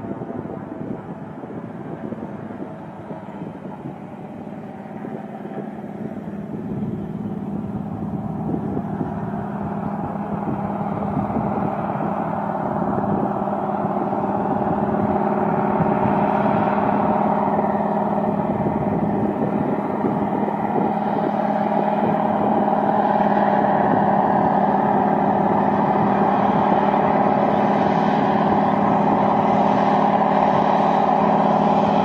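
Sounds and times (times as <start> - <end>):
propeller plane engine: 0.0 - 32.0.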